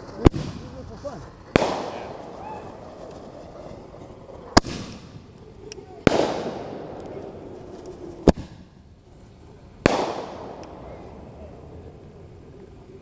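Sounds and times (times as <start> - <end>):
fireworks bangs: 0.0 - 12.4
echoing rumble: 0.0 - 13.0.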